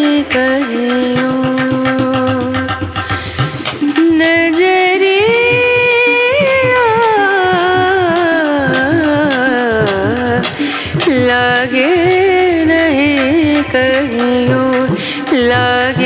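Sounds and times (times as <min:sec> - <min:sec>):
indian-style song: 0:00.0 - 0:16.0
steady percussion beat: 0:00.0 - 0:16.0.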